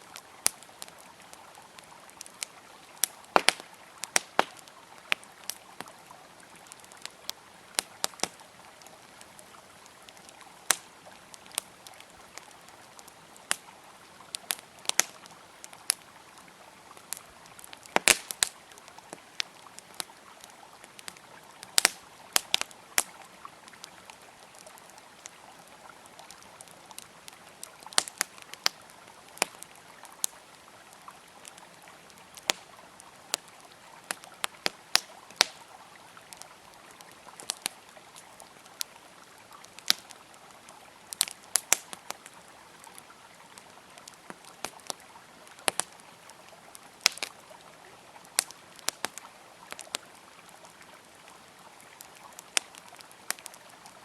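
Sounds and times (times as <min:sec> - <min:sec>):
campfire crackling and popping: 0:00.0 - 0:54.0
river flowing: 0:00.0 - 0:54.0.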